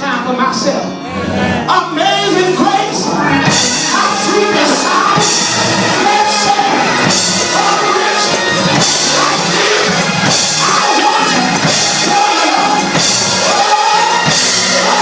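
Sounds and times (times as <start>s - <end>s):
church band music with drums: 0.0s - 15.0s
person singing: 1.0s - 15.0s.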